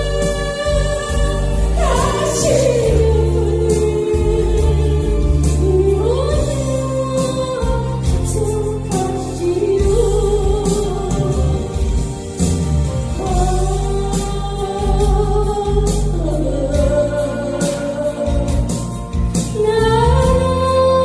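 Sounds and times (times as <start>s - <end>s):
woman singing into microphone: 0.0s - 12.4s, 13.1s - 21.0s
bass and drum accompaniment: 0.0s - 21.0s.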